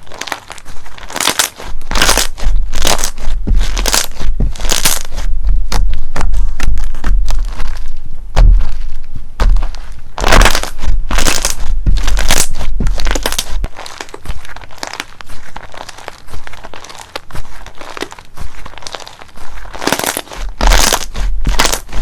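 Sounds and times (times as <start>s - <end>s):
slime squeezed crackling: 0.0s - 22.0s.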